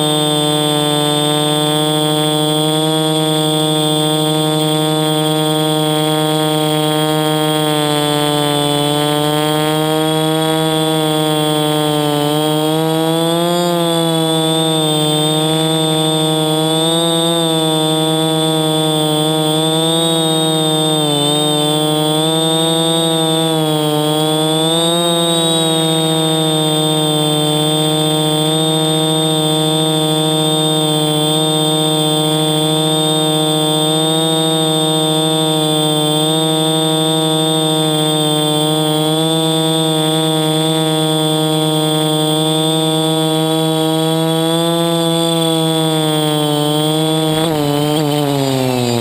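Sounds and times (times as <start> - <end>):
drone propellers humming: 0.0 - 49.0.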